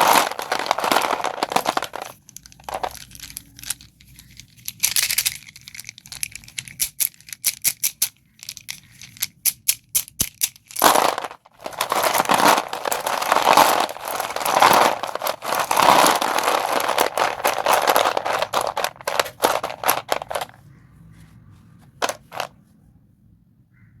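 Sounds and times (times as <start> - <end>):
chalk sticks crunching: 0.0 - 20.6, 21.9 - 22.5.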